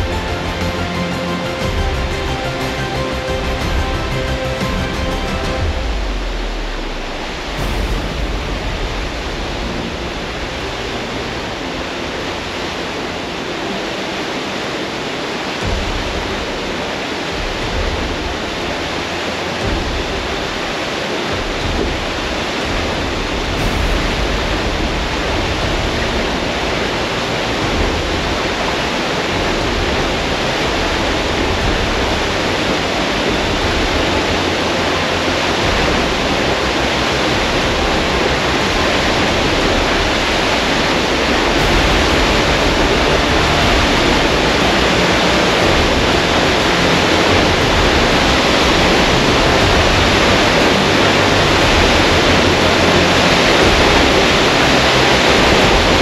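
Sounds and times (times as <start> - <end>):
rushing water: 0.0 - 56.0
weir spilling water: 0.0 - 56.0.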